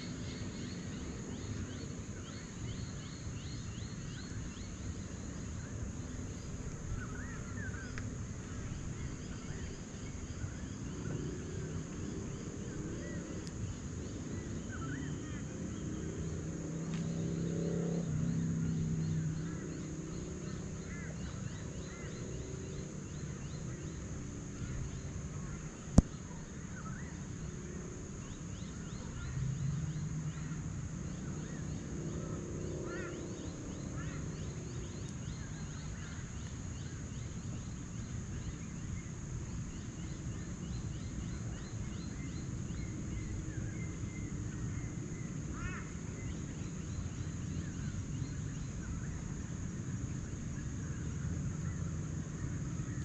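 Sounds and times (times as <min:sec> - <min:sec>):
forest birds chirping: 0:00.0 - 0:53.0.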